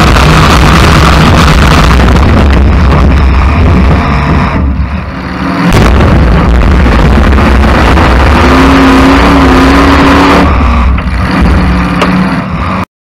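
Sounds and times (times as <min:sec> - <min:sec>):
car engine running hard: 0:00.0 - 0:12.9.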